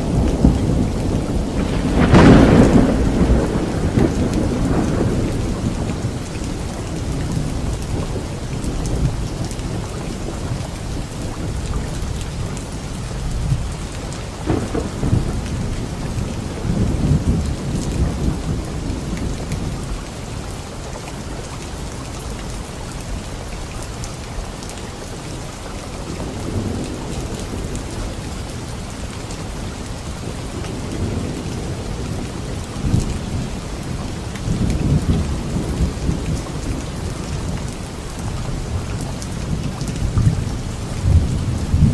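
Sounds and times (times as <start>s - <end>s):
rolling thunder: 0.0s - 20.0s, 26.0s - 41.9s
steady rain falling: 0.0s - 41.9s.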